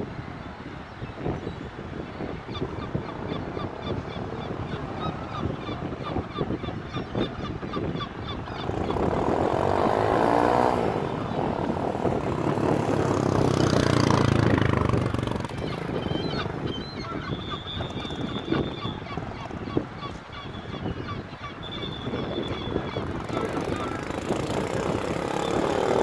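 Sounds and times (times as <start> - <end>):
seagulls calling: 0.6 - 26.0.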